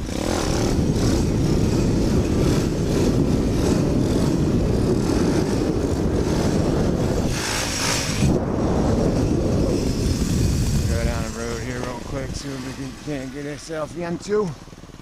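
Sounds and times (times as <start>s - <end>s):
wind rushing noise: 0.0s - 14.0s
small motorbike engine running: 0.0s - 15.0s.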